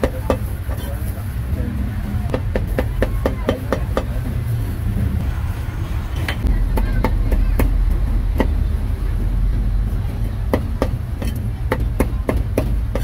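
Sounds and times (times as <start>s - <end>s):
low rumble: 1.2s - 13.0s.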